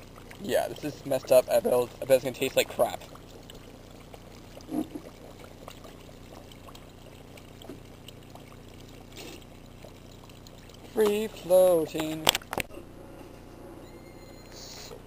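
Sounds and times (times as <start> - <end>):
hot oil bubbling and sizzling: 0.0 - 12.7.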